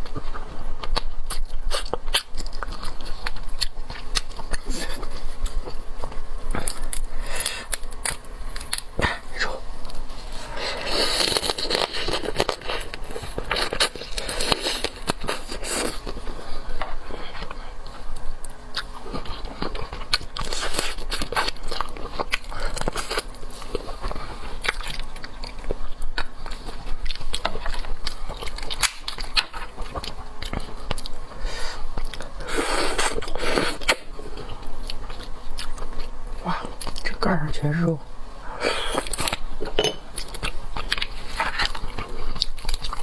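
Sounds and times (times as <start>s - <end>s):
person chewing shellfish: 0.0s - 37.2s, 38.5s - 43.0s.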